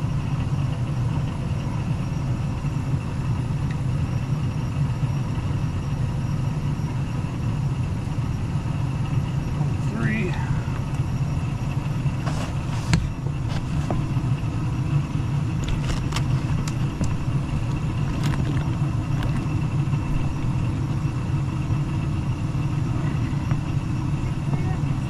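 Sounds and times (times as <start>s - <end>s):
furnace motor humming: 0.0s - 25.0s.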